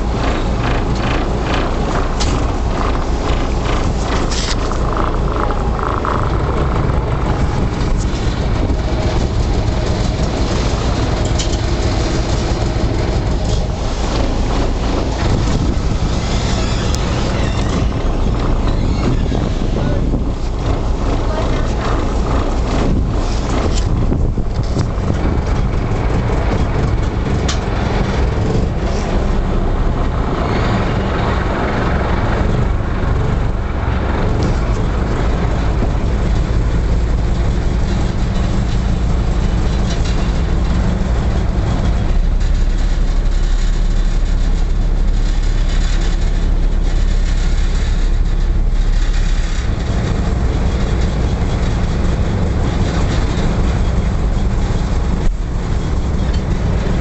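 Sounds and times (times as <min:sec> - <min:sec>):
ferry engine droning: 0:00.0 - 0:57.0
steady rushing noise: 0:00.0 - 0:57.0.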